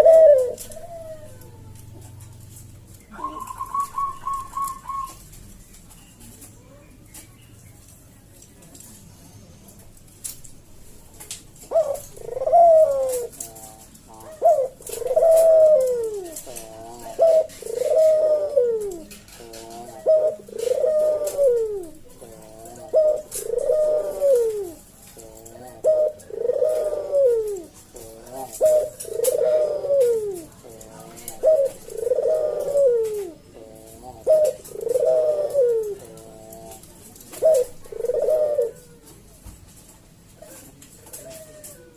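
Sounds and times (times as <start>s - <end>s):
dove cooing: 0.0s - 5.4s, 11.6s - 39.4s, 40.3s - 41.9s.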